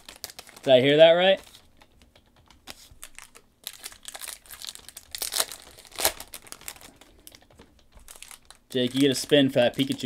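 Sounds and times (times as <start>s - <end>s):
foil wrappers crinkling and tearing: 0.0s - 1.8s, 2.6s - 10.0s
cards rustling: 0.0s - 10.0s.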